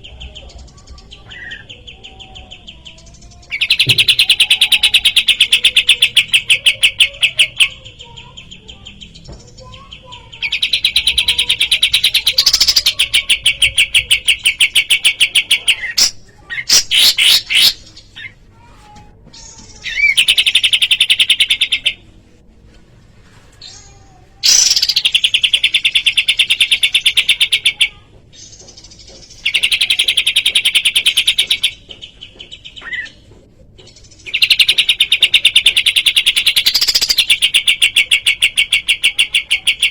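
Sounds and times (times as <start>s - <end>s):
bird song with buzzy trills: 0.0s - 22.0s, 24.4s - 39.9s.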